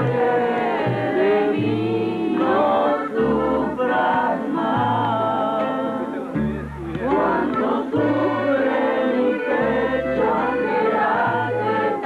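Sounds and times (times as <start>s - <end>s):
several voices singing: 0.0s - 12.0s.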